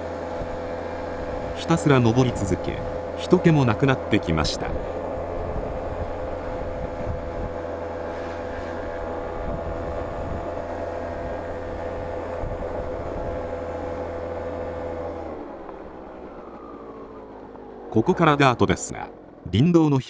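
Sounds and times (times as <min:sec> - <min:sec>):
scooter engine running: 0:00.0 - 0:19.6.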